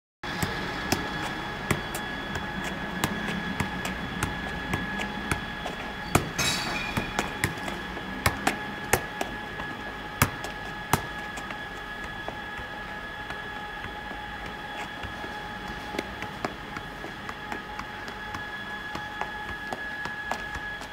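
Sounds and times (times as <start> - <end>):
steady high whine: 0.2 - 20.9
foot thudding on football: 0.4 - 6.4, 7.0 - 20.9.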